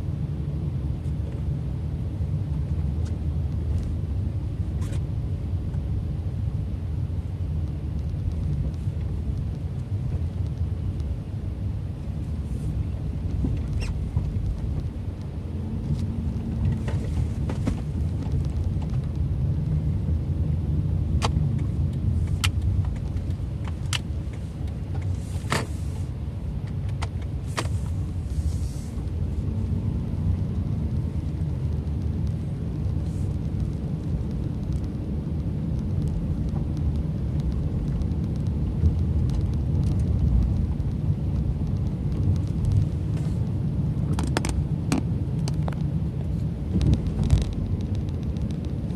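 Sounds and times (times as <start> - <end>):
car road and engine rumble: 0.0 - 48.9.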